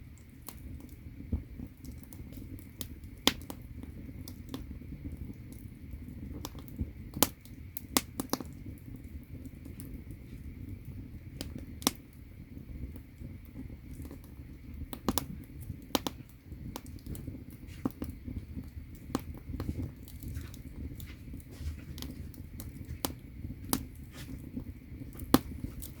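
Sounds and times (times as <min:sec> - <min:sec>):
firewood crackling and popping: 0:00.0 - 0:26.0
low fire rumble: 0:00.0 - 0:26.0.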